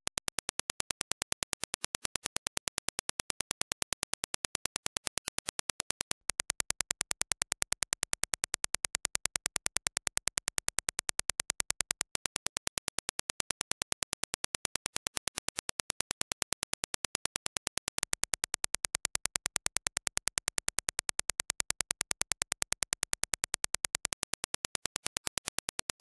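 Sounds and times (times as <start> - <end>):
rapid sharp test clicks: 3.8 - 26.0.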